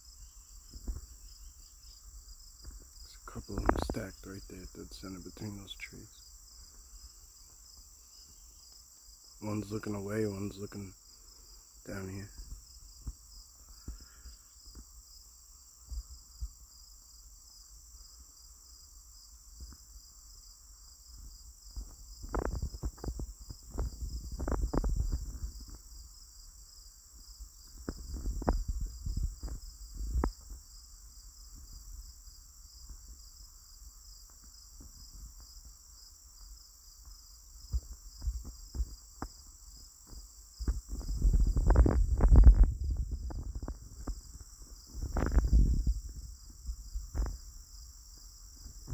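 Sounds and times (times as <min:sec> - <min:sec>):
crickets and insects trilling: 0:00.0 - 0:48.9.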